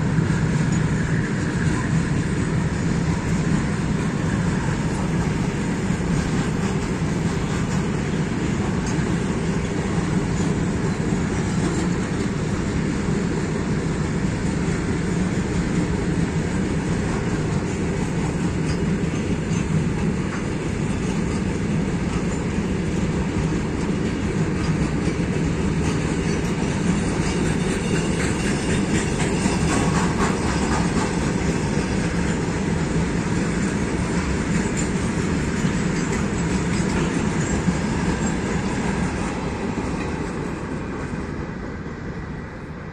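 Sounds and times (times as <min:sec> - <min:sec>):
clicking train wheels: 0:00.0 - 0:42.4
freight train rolling past: 0:00.0 - 0:42.9.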